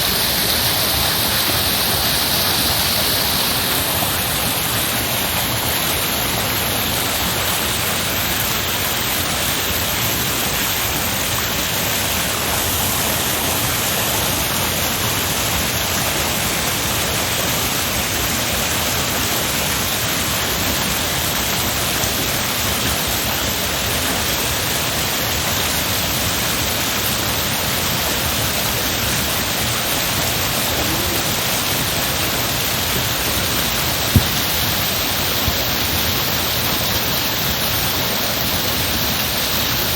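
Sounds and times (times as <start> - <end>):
heavy rushing water: 0.0 - 39.9.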